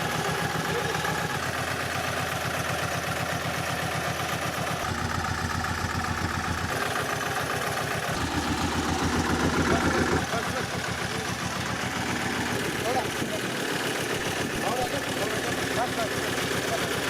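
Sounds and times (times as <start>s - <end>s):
road roller engine idling: 0.0s - 17.0s.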